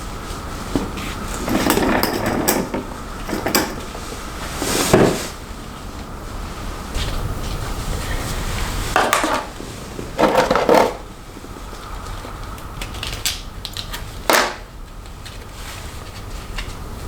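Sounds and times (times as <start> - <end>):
rustling: 0.0 - 14.2.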